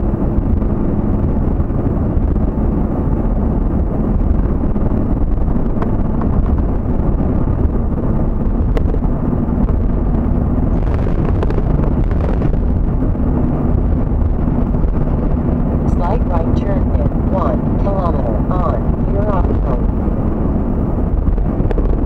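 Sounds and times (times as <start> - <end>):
vehicle road and engine noise: 0.0 - 22.0.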